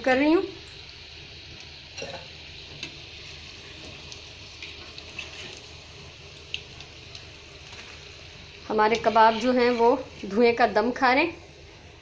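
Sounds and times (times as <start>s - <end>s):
oil sizzling: 0.0s - 12.0s
oil popping and crackling: 0.6s - 10.6s.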